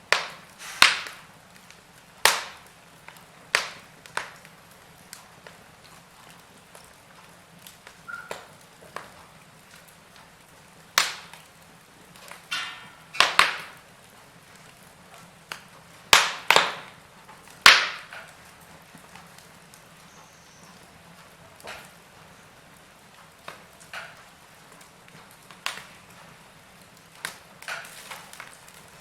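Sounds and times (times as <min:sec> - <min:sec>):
faint steady background noise: 0:00.0 - 0:29.0
wood fire crackling and popping: 0:00.0 - 0:29.0.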